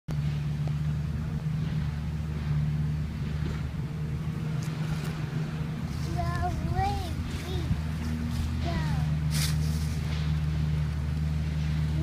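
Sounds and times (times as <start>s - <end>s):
truck engine droning: 0.1s - 12.0s.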